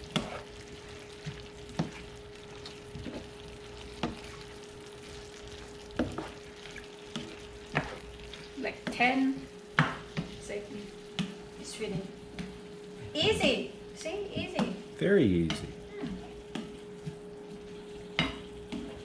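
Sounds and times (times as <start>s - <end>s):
food sizzling in a skillet: 0.0s - 19.0s.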